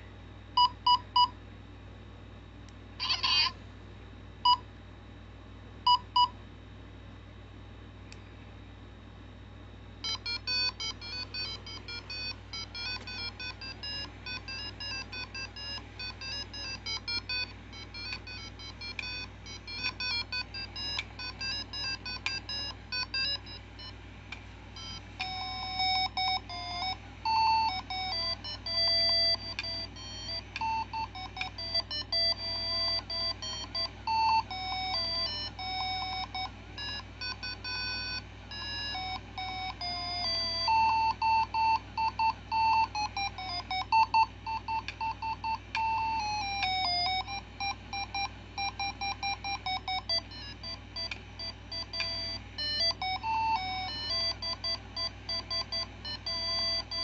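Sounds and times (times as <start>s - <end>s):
tinny electronic toy melody: 10.2s - 23.6s, 24.8s - 57.0s.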